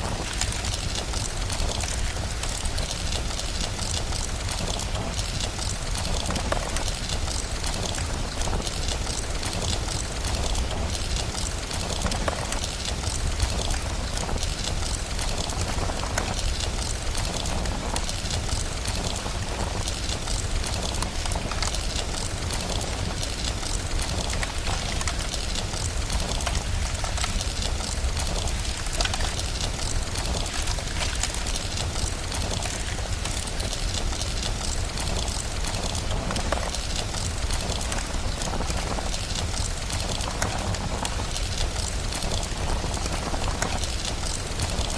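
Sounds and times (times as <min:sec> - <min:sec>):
fireplace crackling: 0:00.0 - 0:44.9
rain hissing: 0:00.0 - 0:44.9.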